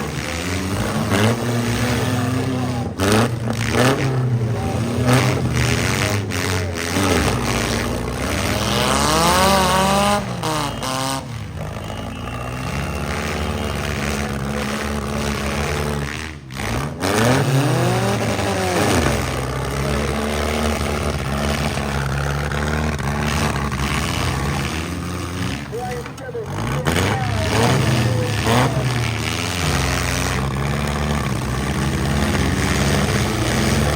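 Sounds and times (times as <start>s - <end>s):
car engines revving: 0.0s - 33.9s.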